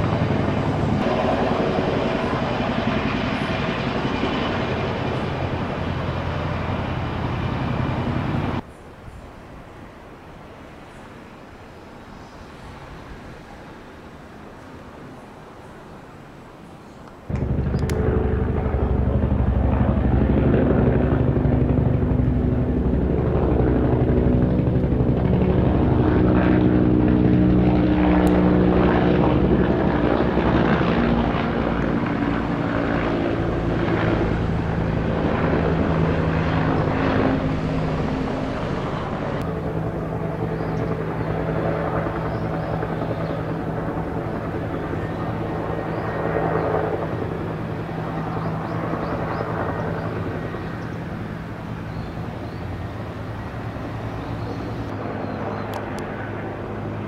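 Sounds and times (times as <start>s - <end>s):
helicopter rotor beating: 0.0s - 8.6s, 17.3s - 57.0s
helicopter engine drone: 0.0s - 8.7s, 17.1s - 57.0s.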